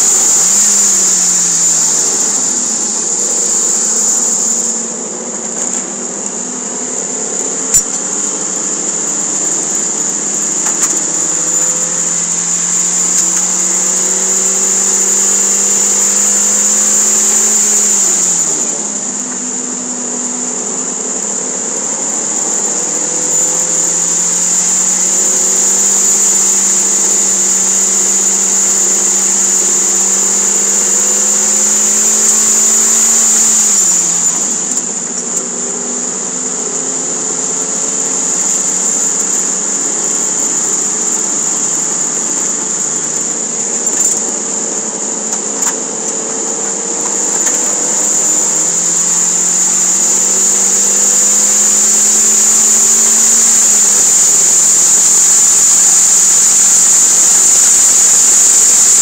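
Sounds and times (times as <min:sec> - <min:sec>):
high whine: 0:00.0 - 0:59.0.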